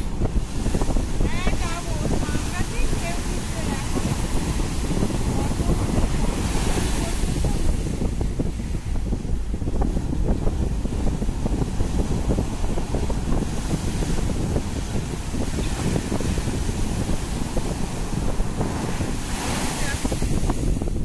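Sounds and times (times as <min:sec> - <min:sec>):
sea surf breaking: 0:00.0 - 0:21.0
wind buffeting microphone: 0:00.0 - 0:21.0.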